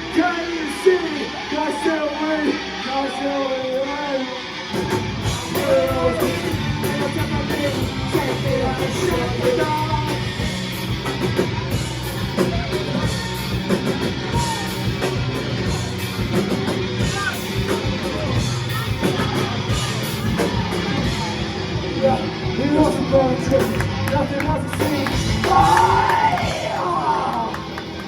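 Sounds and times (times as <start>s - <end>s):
heavy rock band playing: 0.0s - 28.0s.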